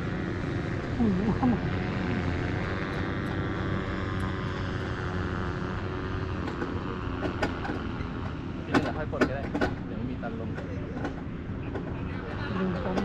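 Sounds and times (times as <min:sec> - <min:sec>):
small aircraft engine droning: 0:00.0 - 0:13.0.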